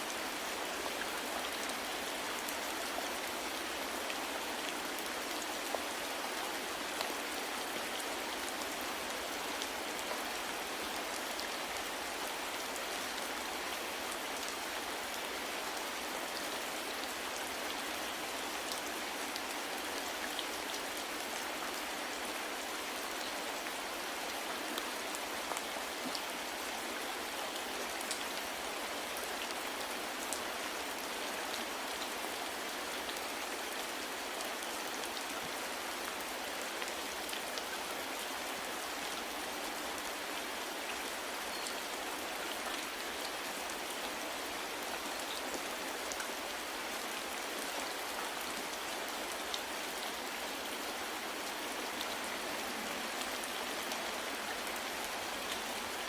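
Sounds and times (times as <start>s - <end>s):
soft rain hissing: 0.0s - 56.0s.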